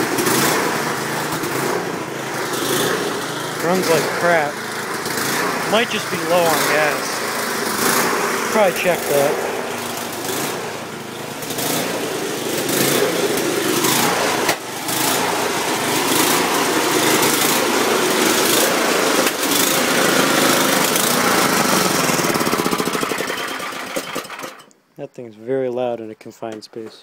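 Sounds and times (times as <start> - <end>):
snowblower engine running rough: 0.0 - 24.7.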